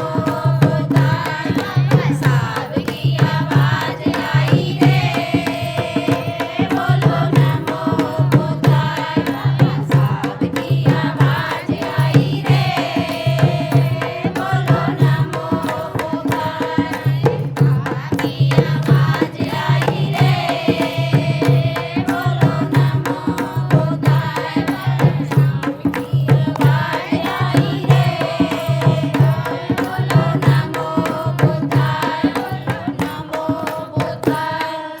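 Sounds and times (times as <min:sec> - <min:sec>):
hand drum beat: 0:00.0 - 0:34.9.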